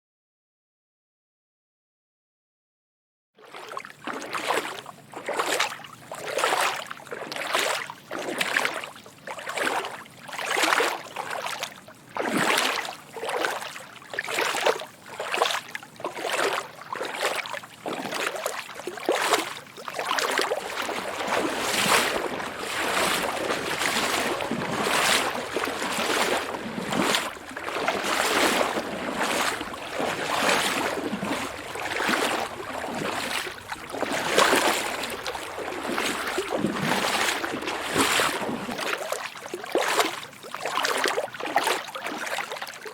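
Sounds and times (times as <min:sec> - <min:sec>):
person wading through water: 0:03.4 - 0:42.9.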